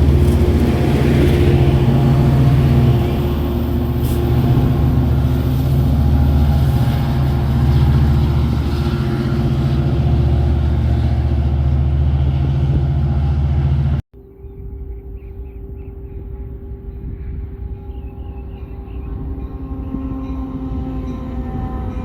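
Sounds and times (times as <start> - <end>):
large engine droning: 0.0 - 14.0, 15.8 - 22.0.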